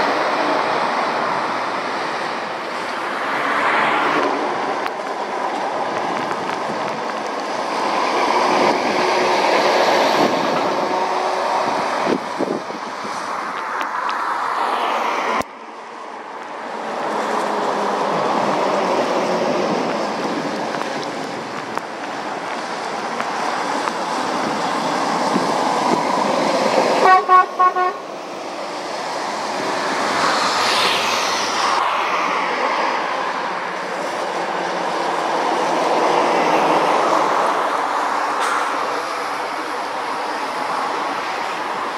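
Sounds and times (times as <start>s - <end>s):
lorries passing: 0.0s - 41.9s.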